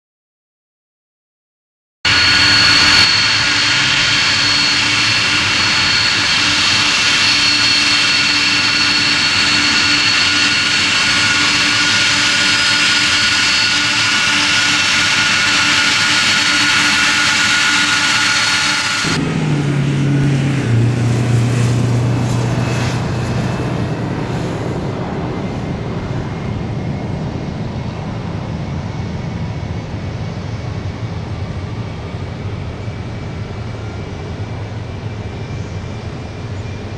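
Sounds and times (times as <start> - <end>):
jet engine fan whine: 2.1 - 36.9
jet engine takeoff rumble: 2.1 - 36.9.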